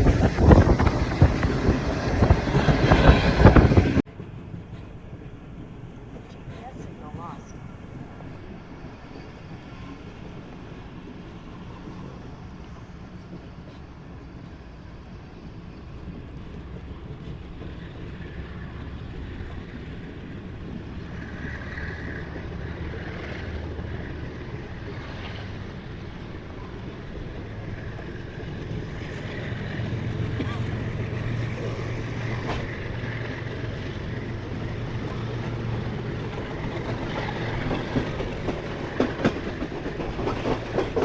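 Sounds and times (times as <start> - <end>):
moving train rumble: 0.0 - 41.0.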